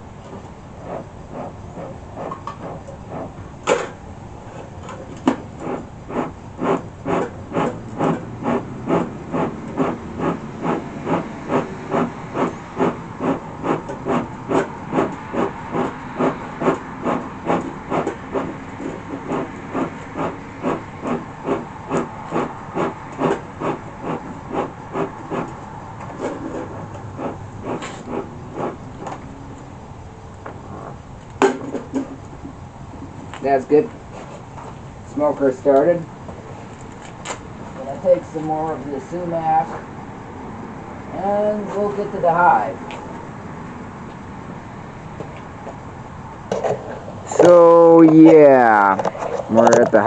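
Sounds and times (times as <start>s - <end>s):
bee smoker bellows puffing: 0.0s - 50.0s.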